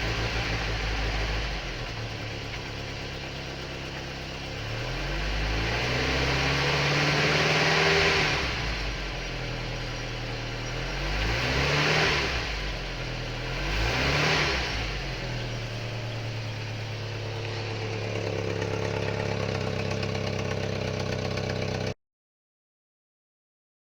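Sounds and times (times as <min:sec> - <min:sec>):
van engine revving and idling: 0:00.0 - 0:22.0.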